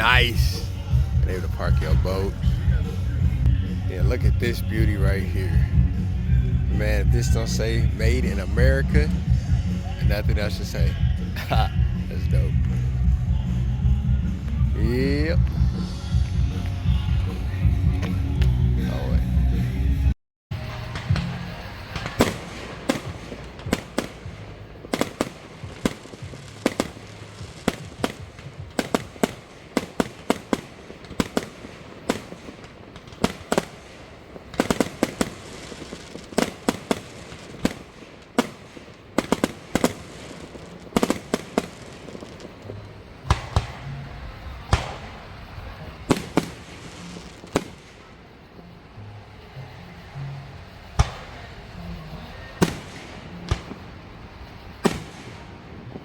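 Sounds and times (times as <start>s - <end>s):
fireworks bangs and cracks: 0.0s - 19.6s, 20.5s - 56.0s.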